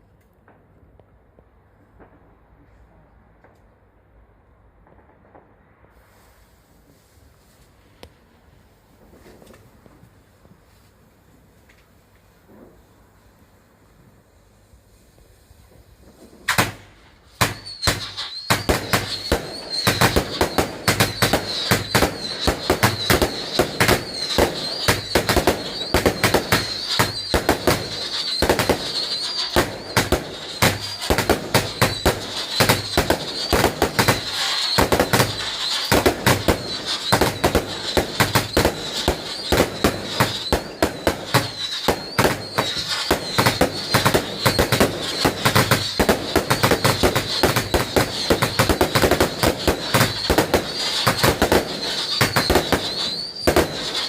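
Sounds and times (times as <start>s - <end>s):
fireworks cracks and bangs: 0.2s - 2.8s, 4.5s - 6.7s, 7.4s - 54.0s.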